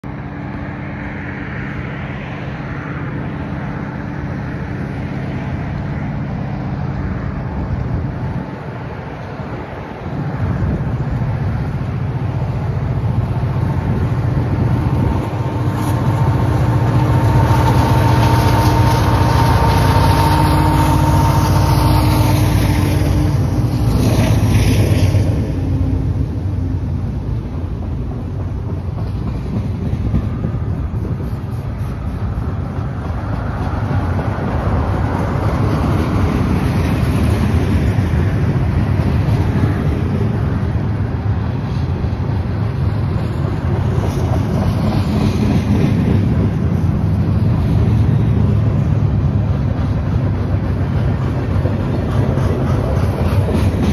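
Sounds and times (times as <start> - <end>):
diesel locomotives rumbling: 0.0 - 53.9
wheels rolling on rails: 2.4 - 53.9.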